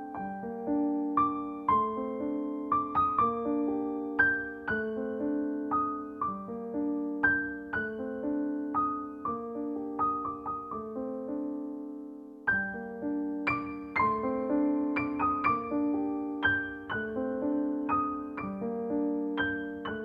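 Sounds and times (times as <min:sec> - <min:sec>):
gentle solo piano melody: 0:00.0 - 0:20.0.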